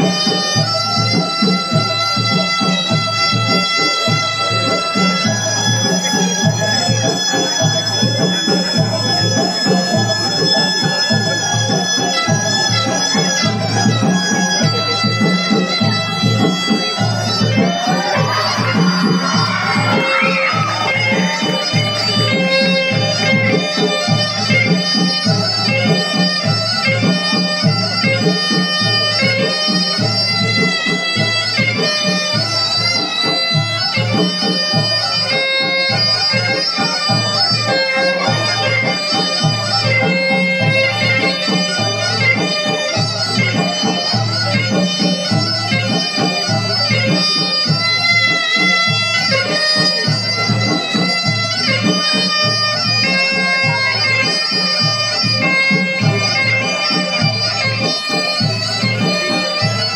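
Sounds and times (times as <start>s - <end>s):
steady drum beat: 0.0s - 33.6s, 37.3s - 59.9s
shrill reed wind instrument: 0.0s - 59.9s.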